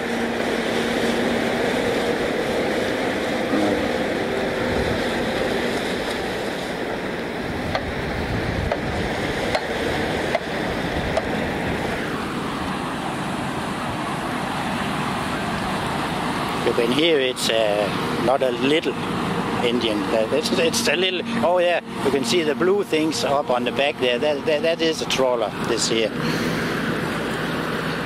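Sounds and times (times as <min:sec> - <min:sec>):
low boat hum: 0:00.0 - 0:28.0
sea water churning: 0:00.0 - 0:28.0.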